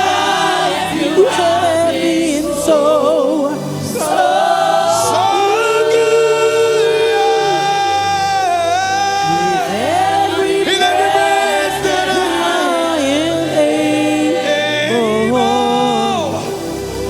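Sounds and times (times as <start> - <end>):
choir singing gospel song: 0.0 - 17.0
sustained musical accompaniment: 0.0 - 17.0.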